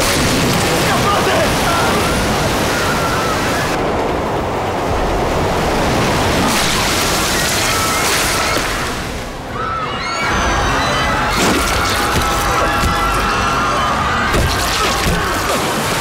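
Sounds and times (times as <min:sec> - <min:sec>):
rushing floodwater: 0:00.0 - 0:16.0.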